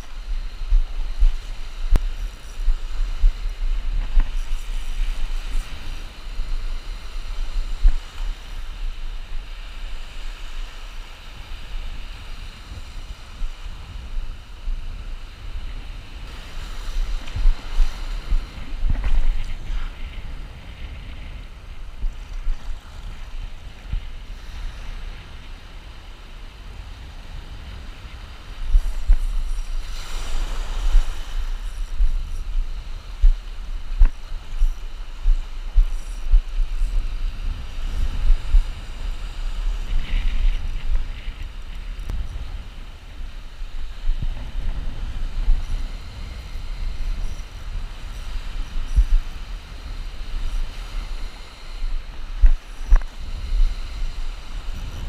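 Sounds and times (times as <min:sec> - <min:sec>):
surf washing in and out: 0:00.0 - 0:55.0
wind buffeting microphone: 0:00.0 - 0:55.0.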